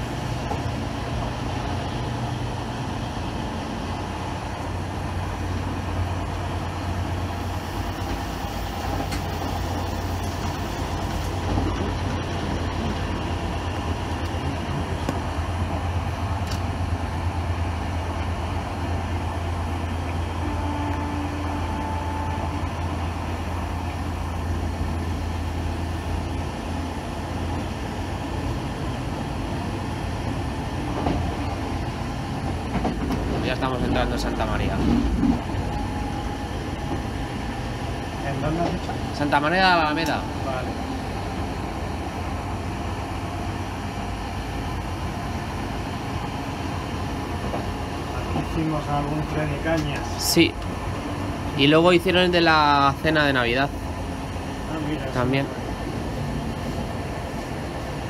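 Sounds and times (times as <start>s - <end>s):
train rolling noise: 0.0s - 58.0s.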